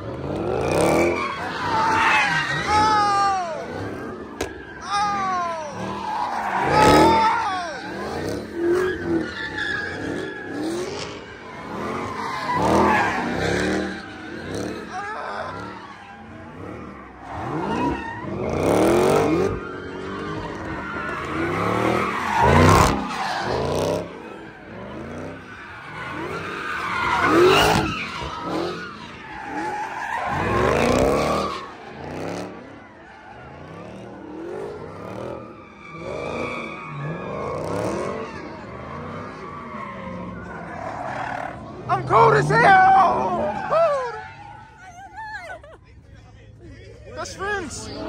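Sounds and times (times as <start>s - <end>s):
car engine revving: 0.0s - 44.8s
tire squeal: 0.0s - 45.6s, 47.1s - 48.0s.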